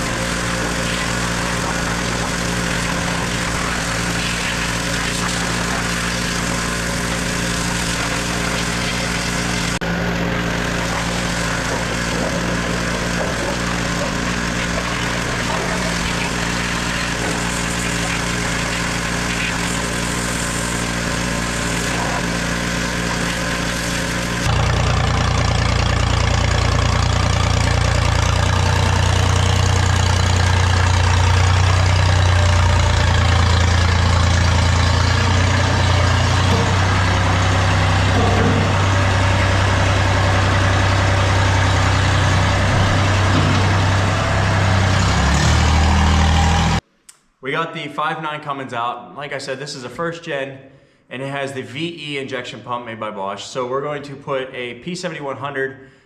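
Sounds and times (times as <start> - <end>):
deep loud engine: 0.0 - 46.8
engine running: 0.0 - 46.8.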